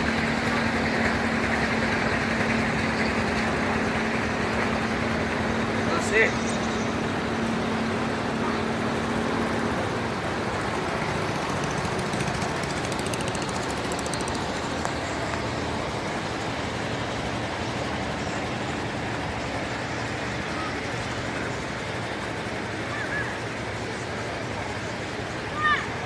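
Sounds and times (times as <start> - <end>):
speed boat engine running: 0.0 - 26.0.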